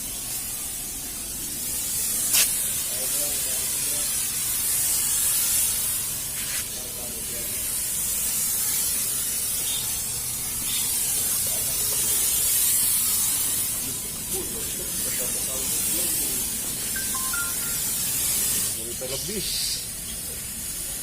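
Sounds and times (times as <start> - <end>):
fogging machine hissing: 0.0 - 21.0.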